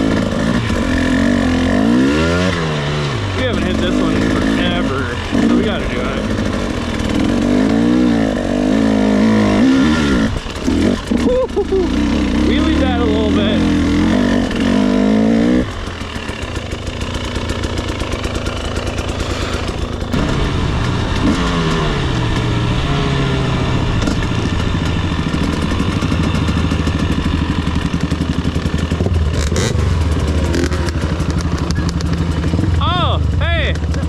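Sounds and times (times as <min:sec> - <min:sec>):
two-stroke dirt bike engine: 0:00.0 - 0:34.0.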